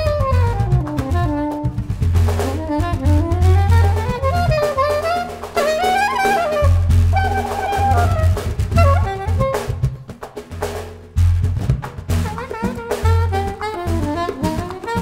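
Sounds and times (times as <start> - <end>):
soprano saxophone melody: 0.0 - 10.0, 12.2 - 15.0
hand drum strokes: 0.0 - 15.0.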